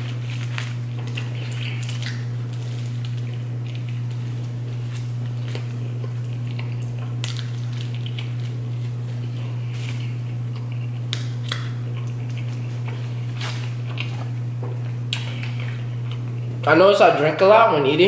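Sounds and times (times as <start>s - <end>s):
chewing mouth sounds: 0.0s - 16.6s
crusty bread crackling: 0.0s - 16.6s.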